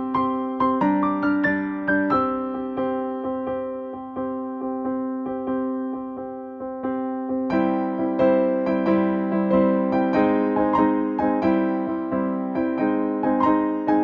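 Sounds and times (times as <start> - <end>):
electric piano playing: 0.0 - 14.0.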